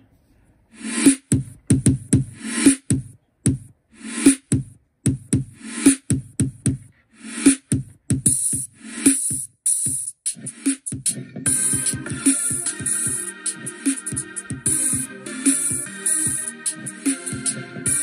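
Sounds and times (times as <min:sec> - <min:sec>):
drum machine beat: 0:00.8 - 0:18.0.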